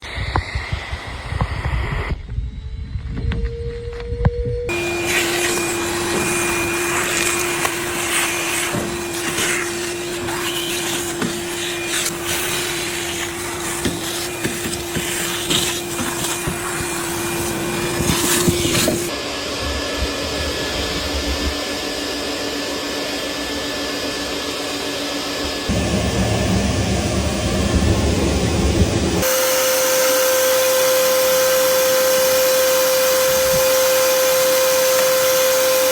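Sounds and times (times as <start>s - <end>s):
vacuum cleaner running: 0.0s - 3.3s, 4.7s - 35.9s.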